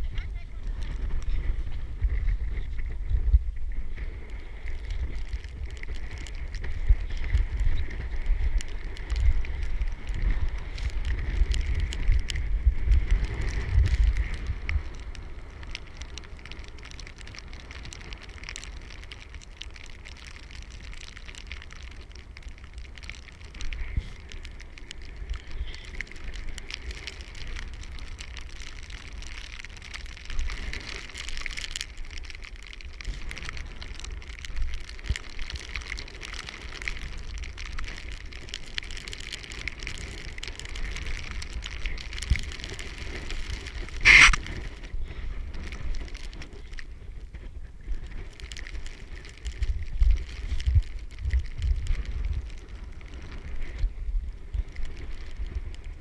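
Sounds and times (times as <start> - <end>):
crackling and crunching: 0.0 - 56.0
wind buffeting microphone: 0.0 - 56.0.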